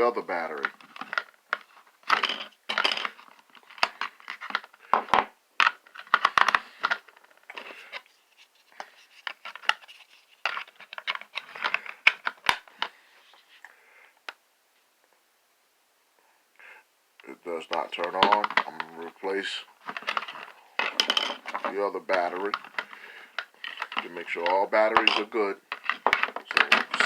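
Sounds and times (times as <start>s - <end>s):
plastic scraping and rustling: 0.0s - 13.6s, 17.6s - 27.0s.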